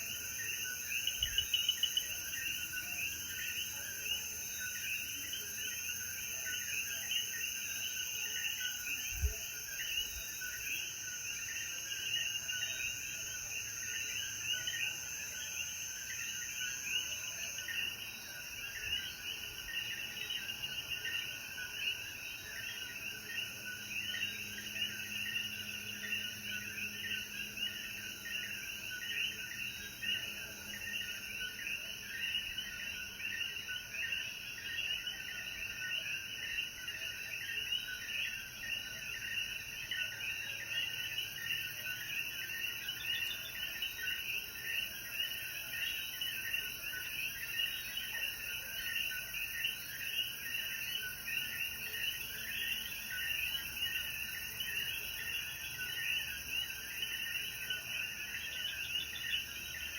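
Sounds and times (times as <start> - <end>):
frogs chorus calling: 0.0 - 59.9.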